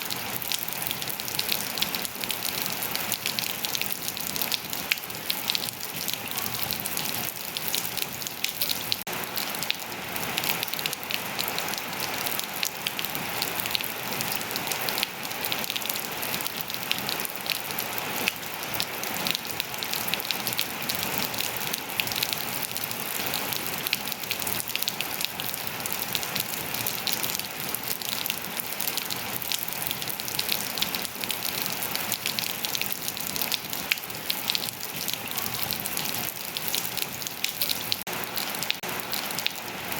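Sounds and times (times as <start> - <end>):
rain falling on surfaces: 0.0 - 39.9.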